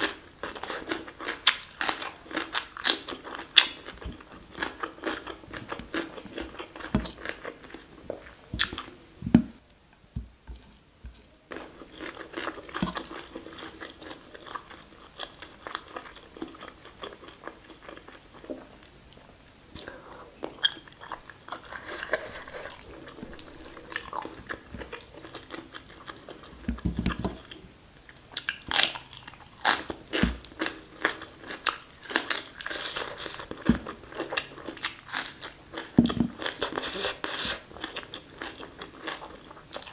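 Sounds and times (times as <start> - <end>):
person chewing and eating: 0.0 - 9.0, 10.5 - 39.9.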